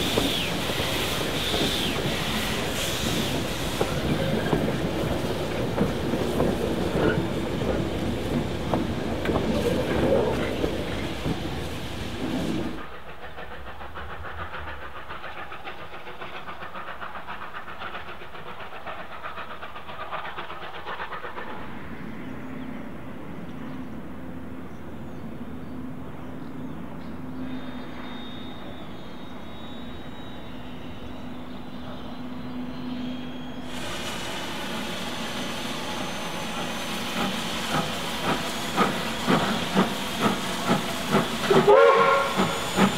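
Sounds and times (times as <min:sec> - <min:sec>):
distant train rattling: 0:00.0 - 0:42.9.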